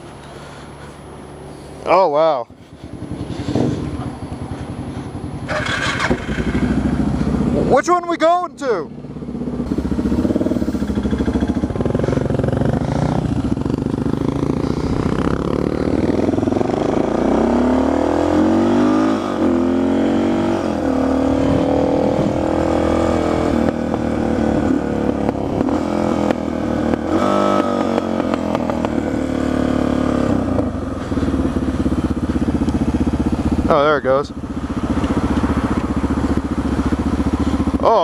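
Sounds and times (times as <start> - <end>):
motorcycle engine shifting gears: 2.6 - 7.8, 9.0 - 38.0.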